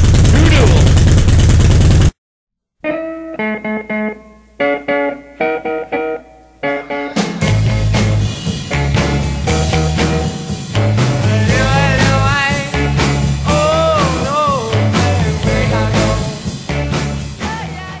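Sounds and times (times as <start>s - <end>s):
rock music with guitar: 2.8s - 18.0s.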